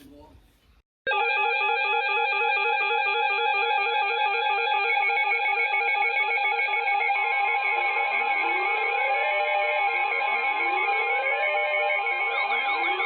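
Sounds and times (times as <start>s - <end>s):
fast synth arpeggio: 1.1s - 13.0s
held synth note: 1.1s - 13.0s.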